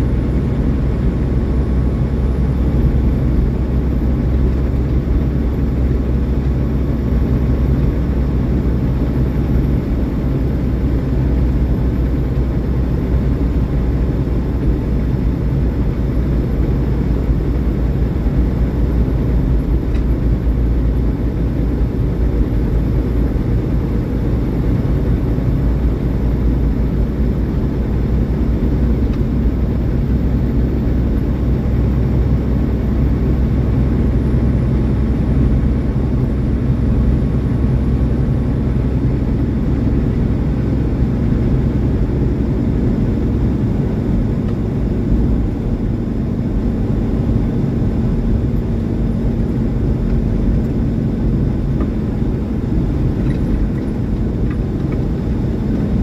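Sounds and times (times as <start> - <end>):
road noise: 0.0 - 56.0
truck diesel engine rumble: 0.0 - 56.0.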